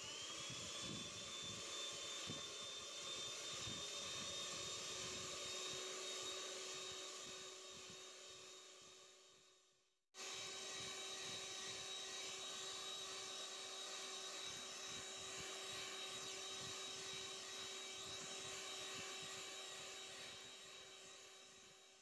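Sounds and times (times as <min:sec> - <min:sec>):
electric hand mixer whirring: 0:00.0 - 0:22.0.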